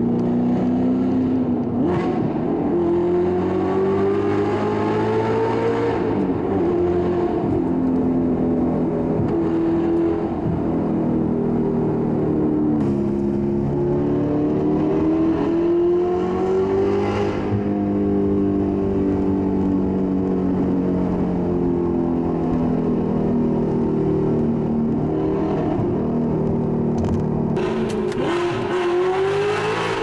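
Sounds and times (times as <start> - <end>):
car engine accelerating in tunnel: 0.0 - 30.0.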